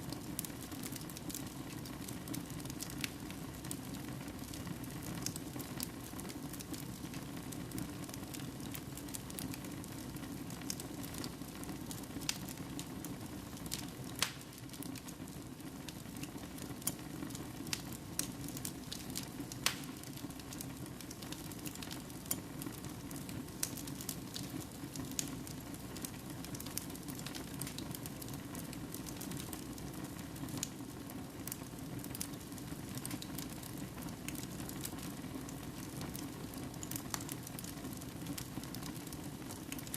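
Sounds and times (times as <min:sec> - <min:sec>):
fire hissing and rumbling: 0:00.0 - 0:39.9
logs crackling and popping: 0:00.1 - 0:39.9.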